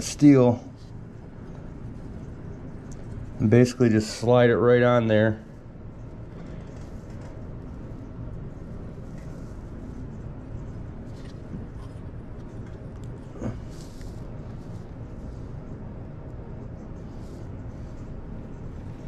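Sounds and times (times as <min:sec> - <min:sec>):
low background hum: 0:00.0 - 0:19.0
faint clicks and rustles: 0:00.7 - 0:03.7, 0:05.5 - 0:19.0.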